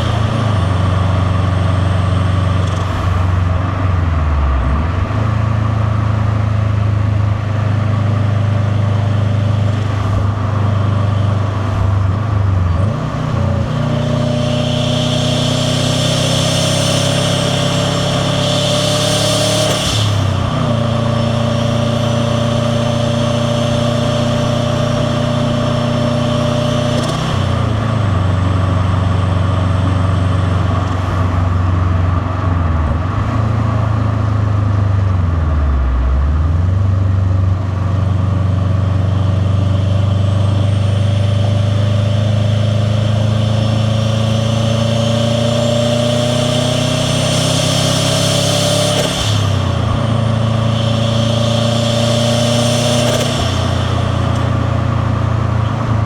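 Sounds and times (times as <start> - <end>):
car engine exhaust note: 0.0 - 56.0.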